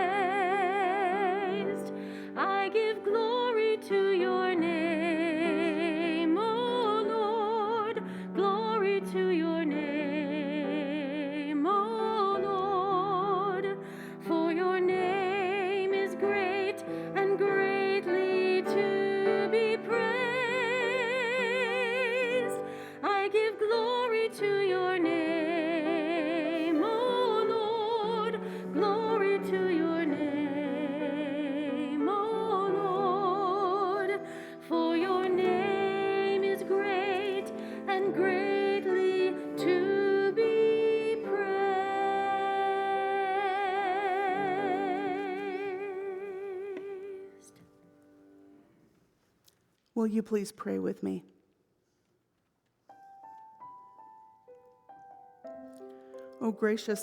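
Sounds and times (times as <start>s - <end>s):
slow hymn sung with vibrato: 0.0s - 47.7s.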